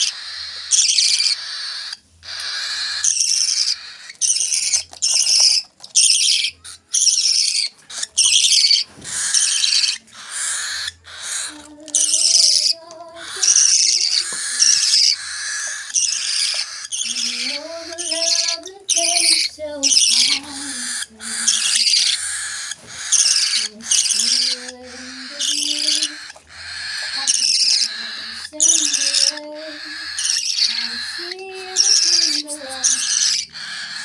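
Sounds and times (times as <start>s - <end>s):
bird chicks begging calls: 0.0s - 34.0s.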